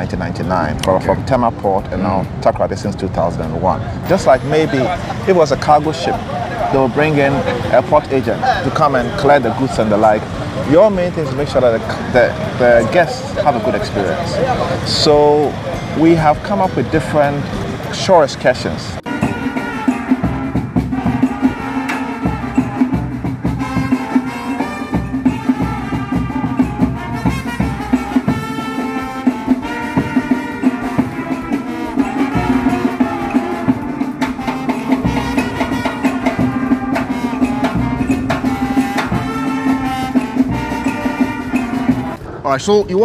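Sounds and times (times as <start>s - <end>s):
brass band music: 0.0s - 42.2s
steady drum beat: 3.4s - 42.2s
horn melody: 4.0s - 42.2s
trombone: 4.1s - 42.2s.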